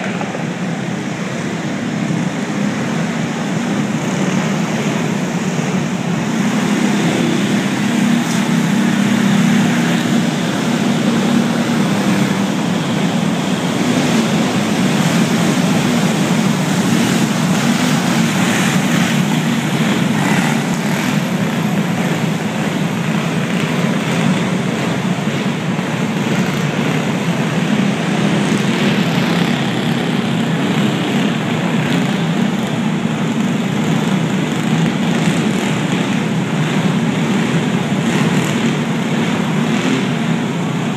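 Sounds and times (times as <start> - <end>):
go-kart engines droning: 0.0 - 40.9.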